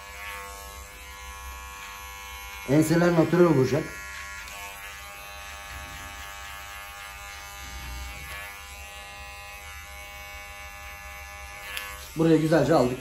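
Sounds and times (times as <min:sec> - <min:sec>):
electric hair clipper buzzing: 0:00.0 - 0:13.0.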